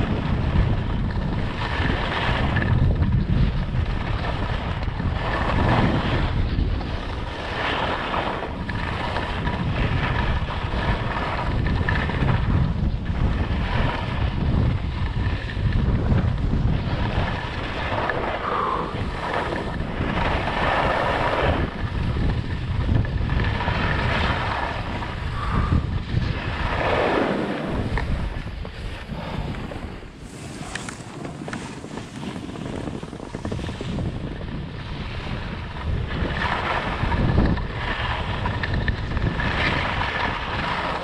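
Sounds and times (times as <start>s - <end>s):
skis scraping over snow: 0.0s - 41.0s
wind buffeting microphone: 0.0s - 41.0s.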